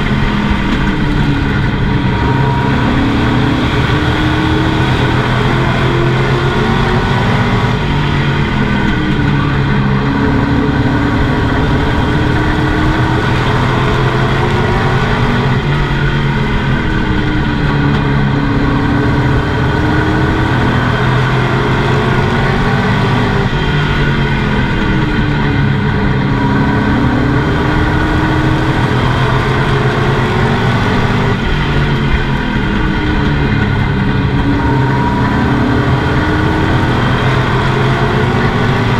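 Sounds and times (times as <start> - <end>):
race engine at speed: 0.0 - 38.9.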